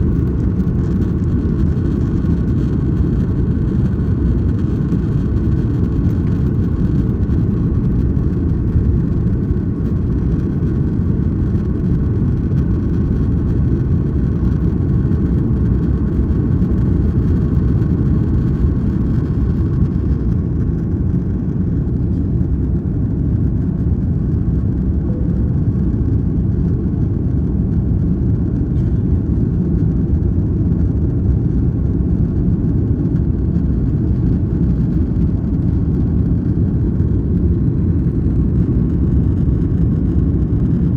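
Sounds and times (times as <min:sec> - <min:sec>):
jet cabin engine rumble: 0:00.0 - 0:40.9.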